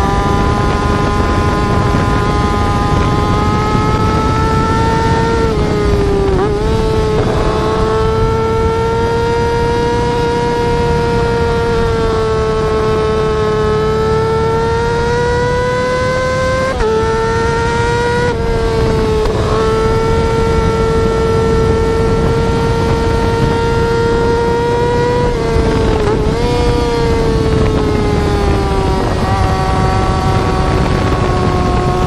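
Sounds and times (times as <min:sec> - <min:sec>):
motorcycle engine high revs wail: 0:00.0 - 0:32.0.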